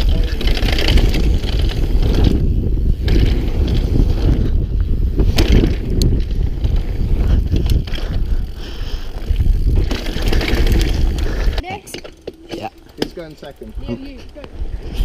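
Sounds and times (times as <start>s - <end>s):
wind buffeting microphone: 0.0s - 12.2s, 13.6s - 15.0s
bike clicks and knocks: 0.0s - 15.0s
bike rolling over rough trail: 0.0s - 15.0s.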